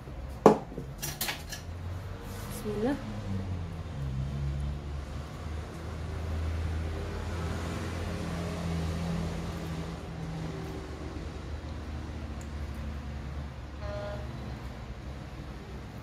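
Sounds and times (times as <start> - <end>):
low motor hum: 1.6 - 16.0.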